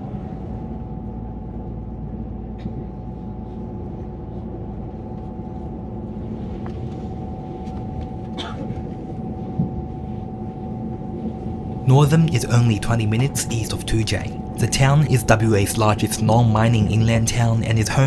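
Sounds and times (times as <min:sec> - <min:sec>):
constant hum-like tone: 0:00.0 - 0:18.0
railcar cabin rumble: 0:00.0 - 0:18.0.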